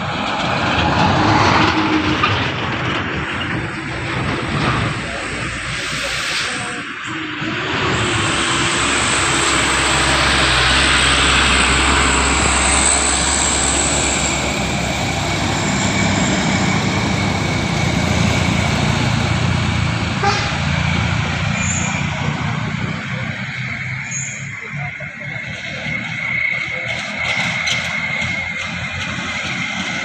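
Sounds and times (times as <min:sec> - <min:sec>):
truck engine running hard: 0:00.0 - 0:30.0
steady high whine: 0:02.0 - 0:30.0.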